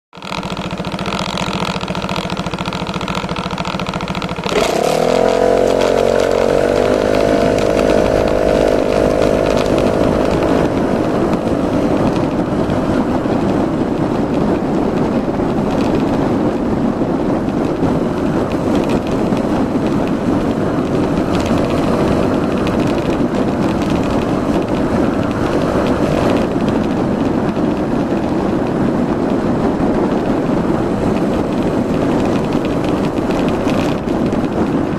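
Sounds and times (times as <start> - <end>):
scooter engine starting and idling: 0.2 - 34.9.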